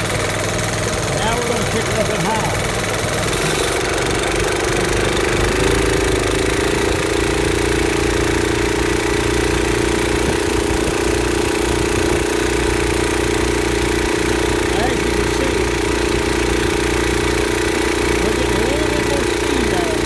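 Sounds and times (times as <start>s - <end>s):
lawnmower engine running: 0.0s - 20.0s.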